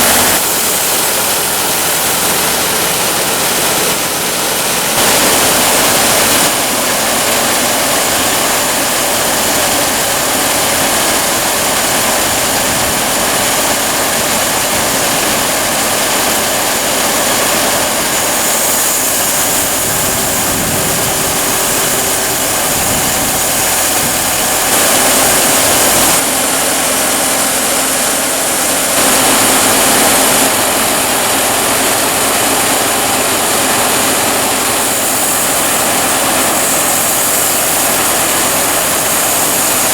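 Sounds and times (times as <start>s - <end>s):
sawmill sawing log: 0.0s - 39.9s.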